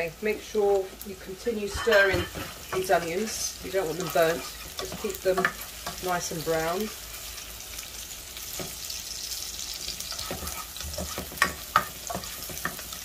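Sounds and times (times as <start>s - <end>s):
onions sizzling in a frying pan: 0.0s - 13.0s.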